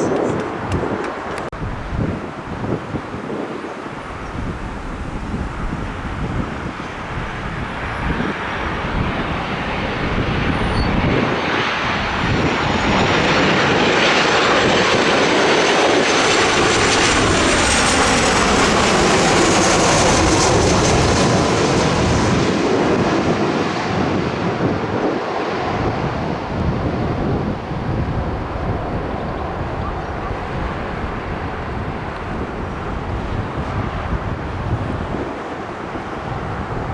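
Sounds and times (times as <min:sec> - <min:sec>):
jet airliner passing overhead: 0:00.0 - 0:36.9.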